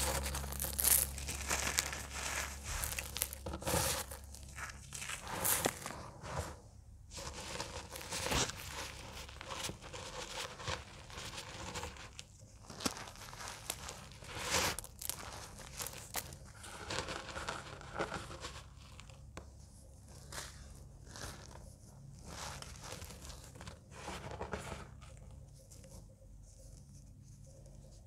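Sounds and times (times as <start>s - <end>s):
fingers crumbling chalk blocks: 0.0s - 6.0s, 7.2s - 25.9s.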